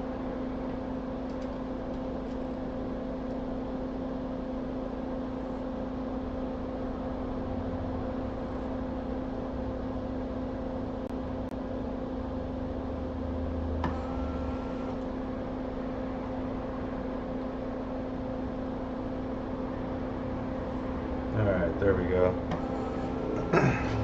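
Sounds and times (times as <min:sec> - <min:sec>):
electrical hum and fan noise: 0:00.0 - 0:24.0.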